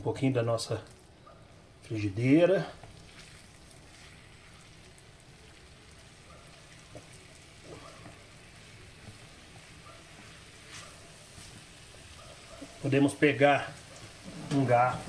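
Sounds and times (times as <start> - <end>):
food sizzling in frying pan: 2.8 - 15.0.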